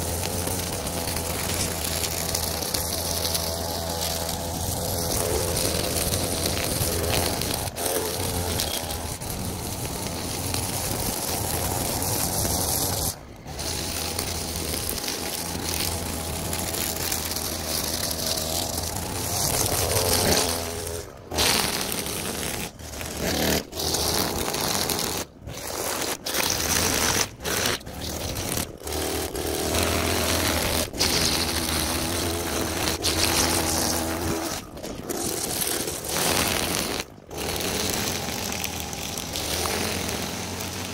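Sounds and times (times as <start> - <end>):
string trimmer cutting grass: 0.0 - 40.9.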